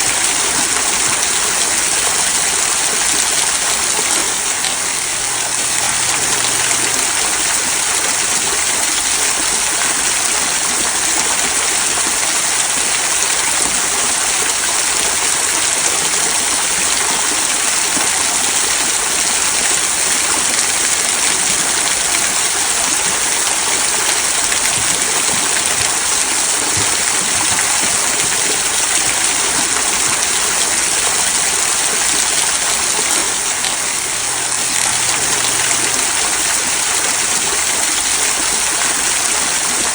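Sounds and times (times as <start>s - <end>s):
waterfall trickling over stones: 0.0s - 39.9s.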